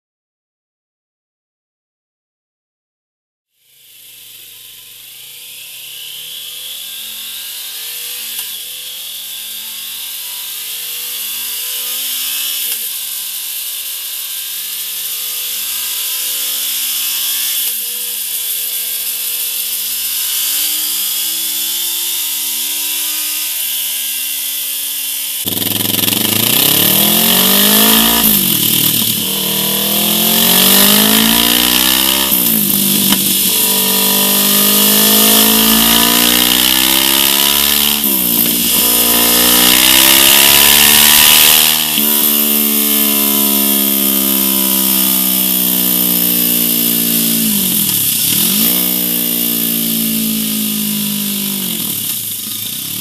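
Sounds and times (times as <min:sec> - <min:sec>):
motorcycle engine revving: 0:03.6 - 0:53.0.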